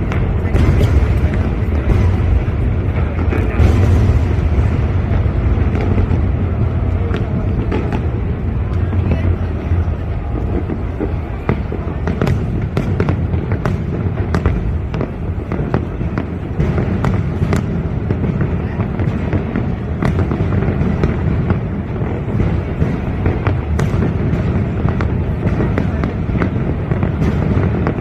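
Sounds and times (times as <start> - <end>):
fireworks cracks and pops: 0.0 - 28.0
fireworks rumble: 0.0 - 28.0.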